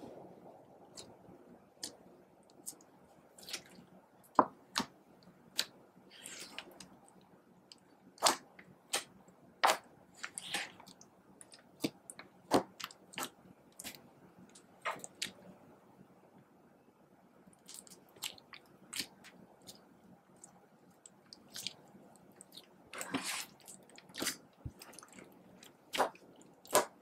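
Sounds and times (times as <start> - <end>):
slime squishing: 0.8 - 15.4, 17.6 - 27.0.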